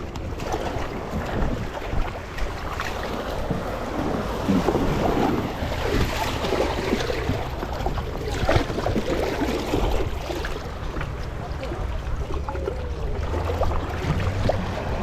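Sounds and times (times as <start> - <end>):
sea water splashing at shoreline: 0.0 - 15.0
wind buffeting microphone: 0.0 - 15.0.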